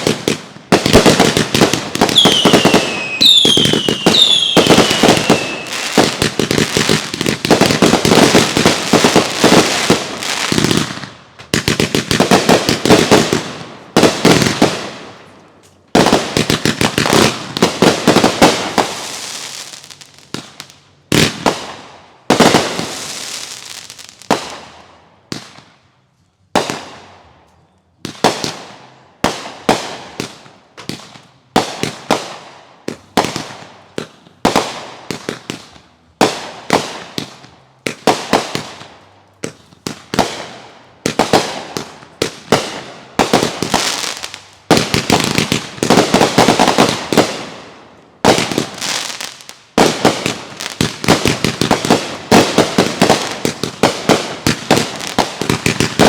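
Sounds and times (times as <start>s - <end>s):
fireworks bangs and crackles: 0.0s - 25.8s, 26.5s - 56.0s.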